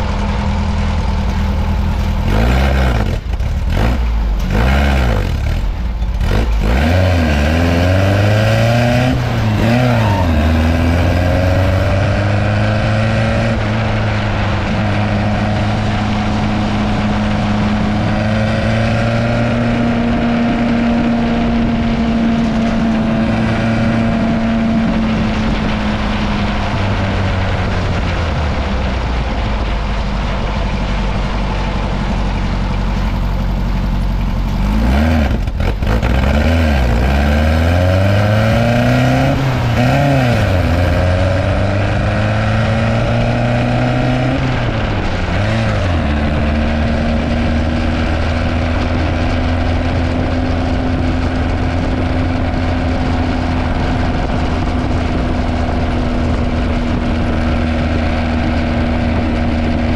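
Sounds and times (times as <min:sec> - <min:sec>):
dune buggy engine running: 0:00.0 - 0:59.9.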